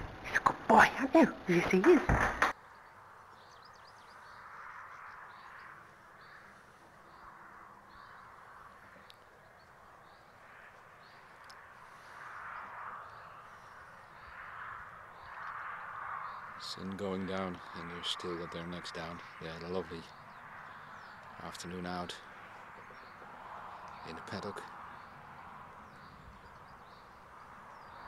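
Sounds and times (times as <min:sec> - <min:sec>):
distant harsh bird calls: 0:00.0 - 0:28.0.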